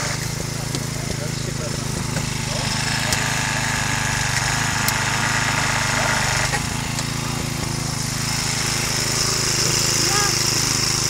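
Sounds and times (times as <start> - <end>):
rescue tool working on car body: 0.0 - 11.0
small petrol engine running: 0.0 - 11.0.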